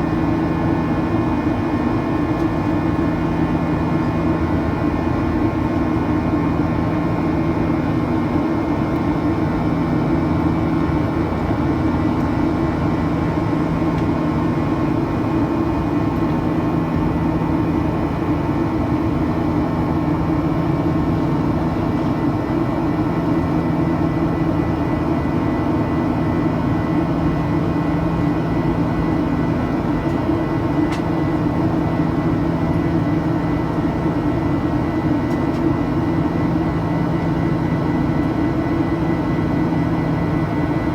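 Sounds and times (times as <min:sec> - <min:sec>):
jet engine cabin drone: 0:00.0 - 0:40.9.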